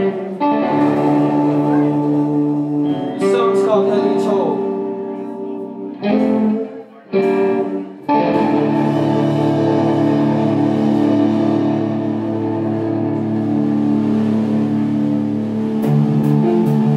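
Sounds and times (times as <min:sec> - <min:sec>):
rock band electric guitar chords: 0:00.0 - 0:16.9.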